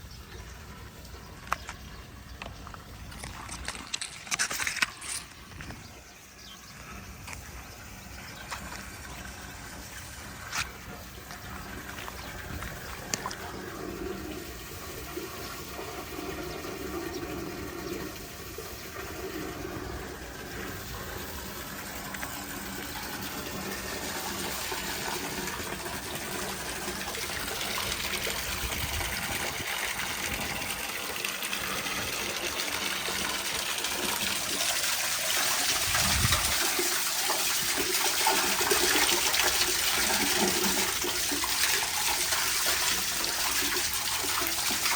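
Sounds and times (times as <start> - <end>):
water rushing down a drain: 0.0 - 44.9.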